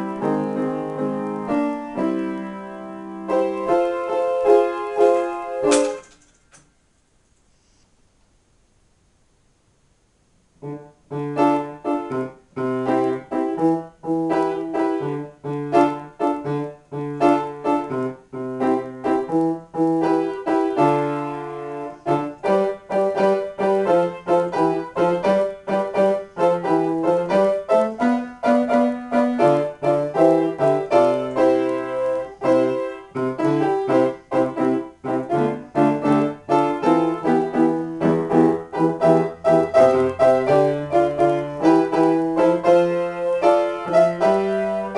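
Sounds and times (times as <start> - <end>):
solo piano improvisation: 0.0 - 6.2, 10.6 - 44.9.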